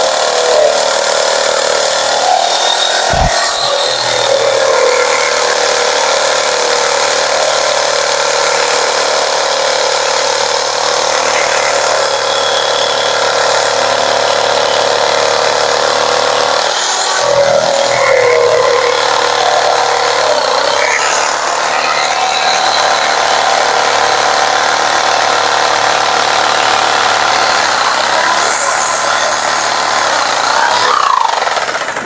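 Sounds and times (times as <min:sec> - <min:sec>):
jigsaw cutting wood: 0:00.0 - 0:32.0.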